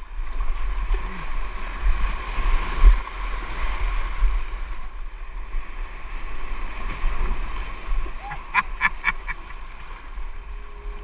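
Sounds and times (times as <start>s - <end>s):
sea waves: 0.0s - 11.0s.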